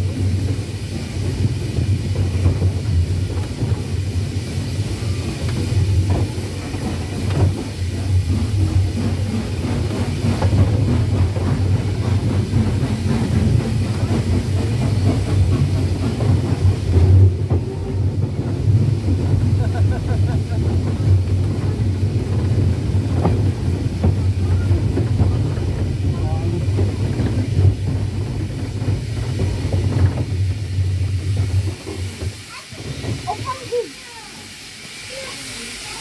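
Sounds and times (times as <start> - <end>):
steam locomotive rumbling: 0.0 - 36.0
wheels knocking on rails: 0.0 - 36.0.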